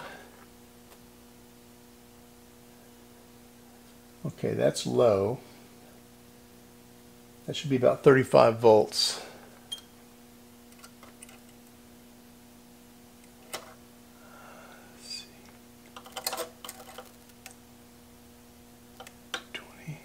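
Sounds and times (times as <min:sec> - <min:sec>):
faint mains hum: 0:00.0 - 0:20.0.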